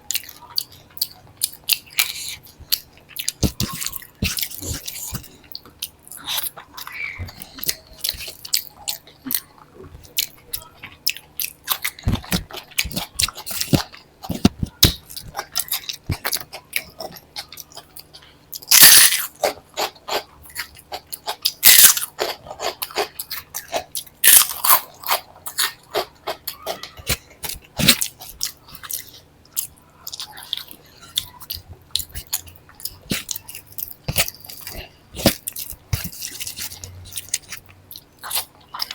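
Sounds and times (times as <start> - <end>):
person chewing and crunching food: 0.0 - 38.9.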